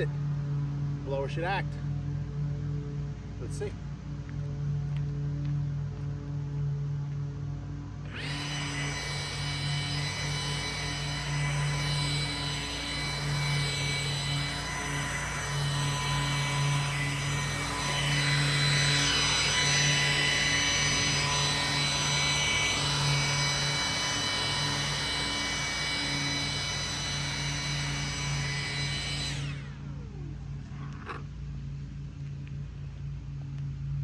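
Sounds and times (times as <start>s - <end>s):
blower fan whine: 0.0s - 34.0s
low hum: 0.0s - 34.0s.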